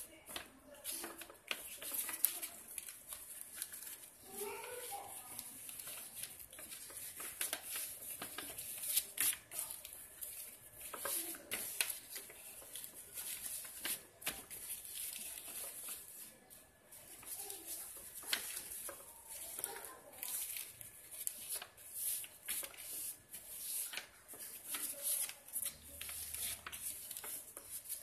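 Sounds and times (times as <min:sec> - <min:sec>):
paper rustling and crackling: 0:00.0 - 0:28.0
paper creasing strokes: 0:00.3 - 0:28.0.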